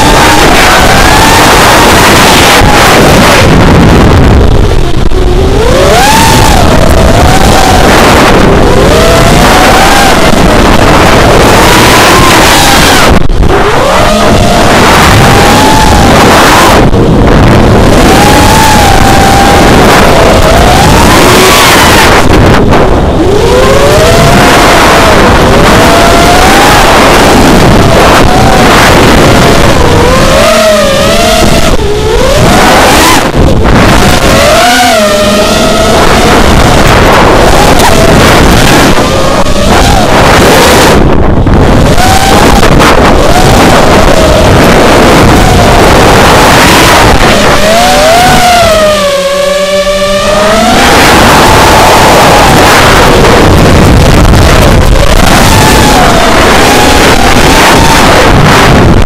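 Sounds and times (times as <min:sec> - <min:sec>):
drone motors whining: 0:00.0 - 0:59.0
wind noise: 0:00.0 - 0:59.0.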